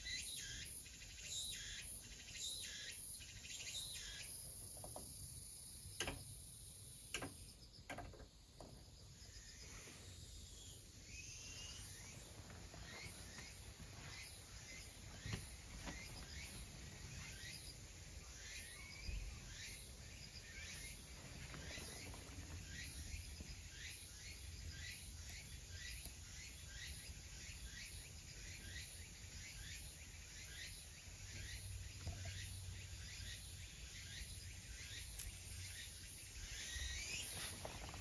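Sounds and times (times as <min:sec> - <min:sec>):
bird chirping: 0:00.0 - 0:06.1, 0:08.7 - 0:38.0.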